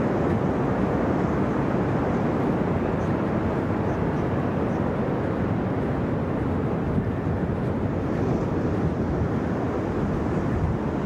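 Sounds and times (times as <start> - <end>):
ocean surf roar: 0.0 - 11.0
wind buffeting microphone: 0.0 - 11.0.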